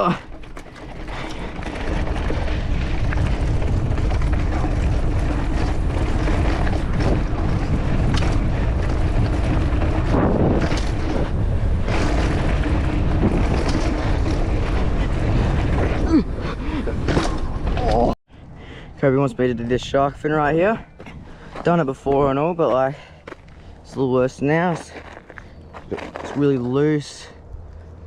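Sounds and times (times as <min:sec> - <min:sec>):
bike rattling on dirt trail: 0:00.0 - 0:18.2, 0:19.1 - 0:27.2
wind buffeting microphone: 0:00.0 - 0:18.2, 0:19.2 - 0:26.6.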